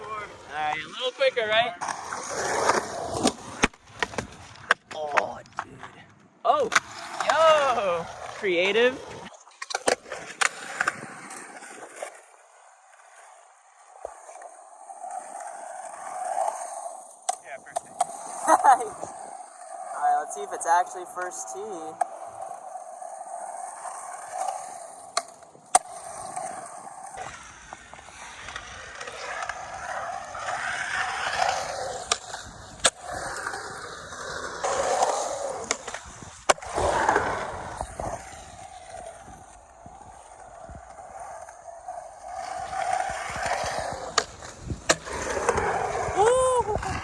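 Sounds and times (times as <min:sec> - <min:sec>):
skateboard wheels rolling on concrete: 0:00.0 - 0:47.0
skateboard clacking: 0:01.8 - 0:11.8, 0:13.9 - 0:47.0.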